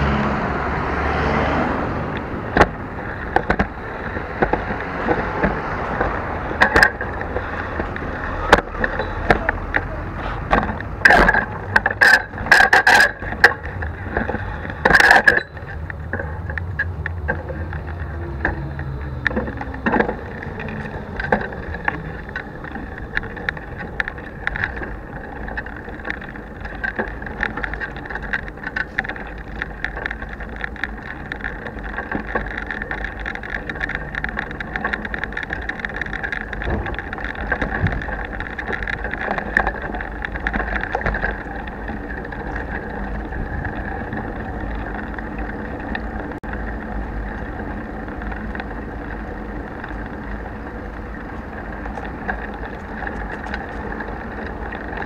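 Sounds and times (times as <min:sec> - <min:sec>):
bicycle rattling over paving: 0:00.0 - 0:55.0.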